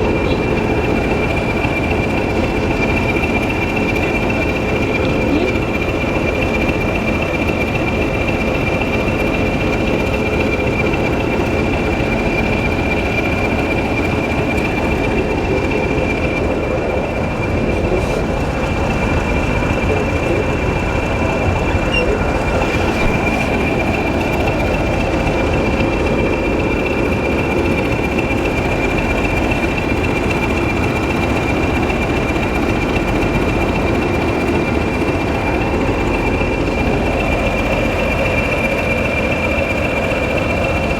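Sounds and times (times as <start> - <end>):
train running rumble: 0.0 - 40.9.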